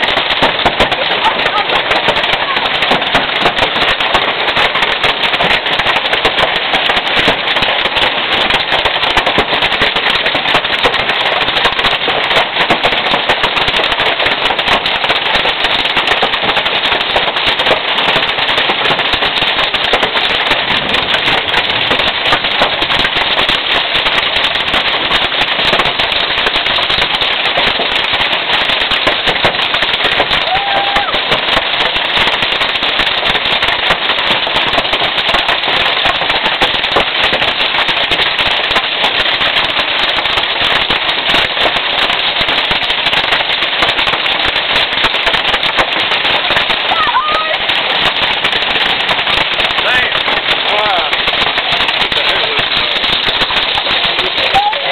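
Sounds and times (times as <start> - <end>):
hailstones pelting down: 0.0 - 54.9.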